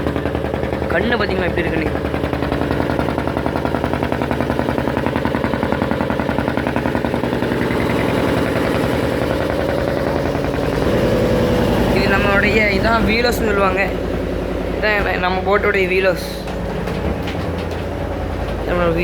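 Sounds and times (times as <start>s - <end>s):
boat diesel engine thumping: 0.0s - 19.0s.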